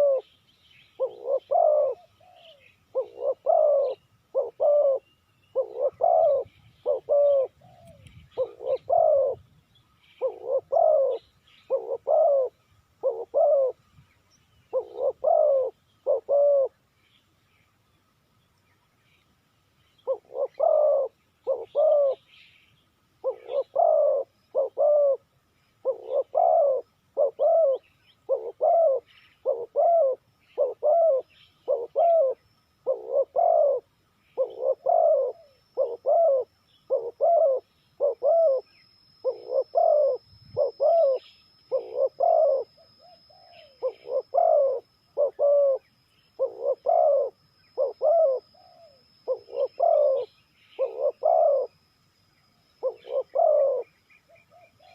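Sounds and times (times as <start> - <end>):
dove cooing: 0.0 - 13.8, 14.6 - 16.9, 19.9 - 22.4, 23.2 - 51.9, 52.8 - 54.9.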